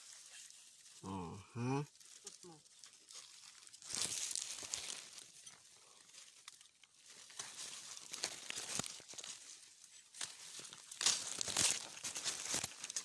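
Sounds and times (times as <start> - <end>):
dry rice stalks rustling: 0.0 - 1.2, 1.9 - 13.0.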